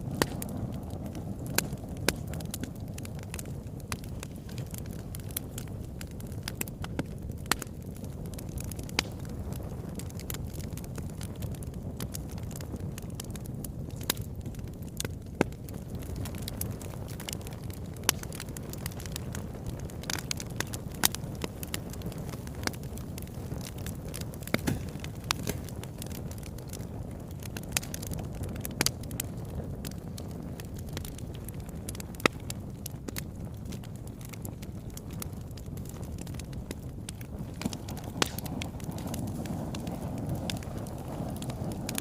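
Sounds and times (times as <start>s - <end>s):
fire crackling and popping: 0.0s - 42.0s
low rumble of flames: 0.0s - 42.0s
sharp snaps of burning wood: 0.0s - 42.0s.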